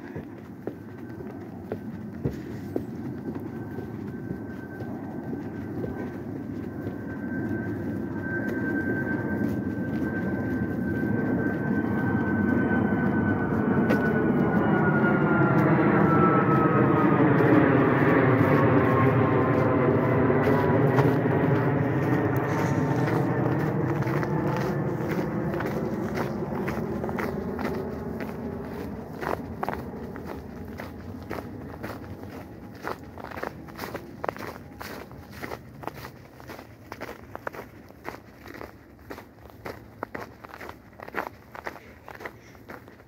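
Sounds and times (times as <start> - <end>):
footsteps on trail: 0.0 - 43.0
large vehicle passing with whine: 1.8 - 37.6.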